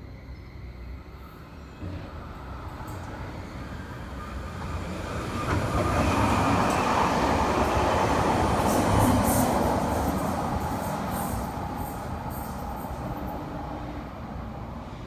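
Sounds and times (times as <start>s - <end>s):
electric train running past: 0.0s - 15.0s.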